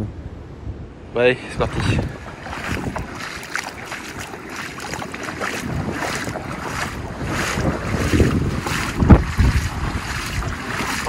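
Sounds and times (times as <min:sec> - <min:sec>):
wind buffeting microphone: 0:00.0 - 0:11.0
footsteps splashing through water: 0:01.5 - 0:11.0
heavy low splash: 0:01.6 - 0:11.0.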